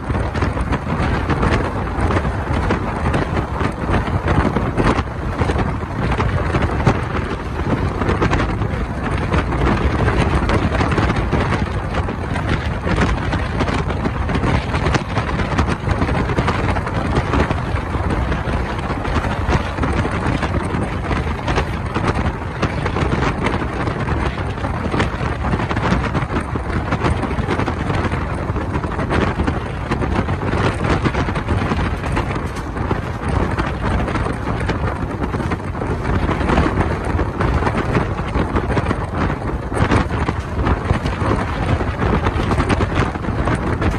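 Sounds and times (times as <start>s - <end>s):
train rumbling: 0.0s - 43.9s
wheels clattering on rails: 0.0s - 43.9s
wind buffeting microphone: 0.0s - 43.9s.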